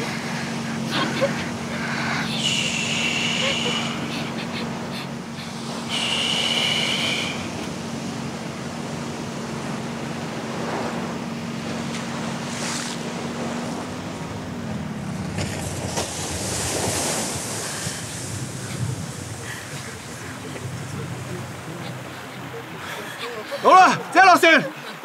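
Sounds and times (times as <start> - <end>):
small boat motor humming: 0.0 - 25.0
water and waves washing: 0.0 - 25.0.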